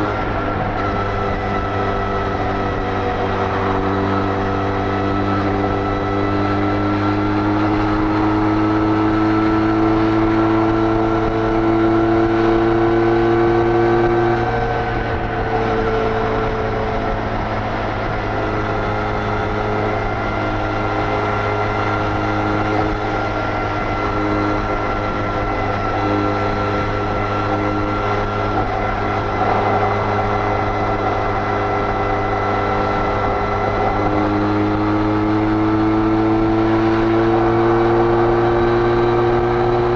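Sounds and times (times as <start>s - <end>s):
wind rush: 0.0s - 6.9s, 12.8s - 39.9s
motorcycle engine at high speed: 0.0s - 39.9s.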